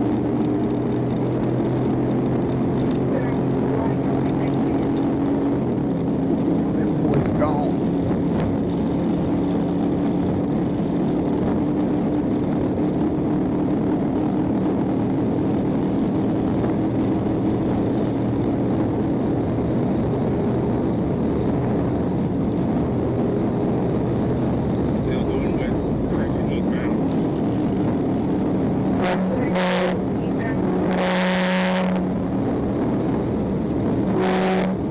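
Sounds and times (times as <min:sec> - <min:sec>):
car engine drone: 0:00.0 - 0:34.9
road and wind noise: 0:00.0 - 0:34.9.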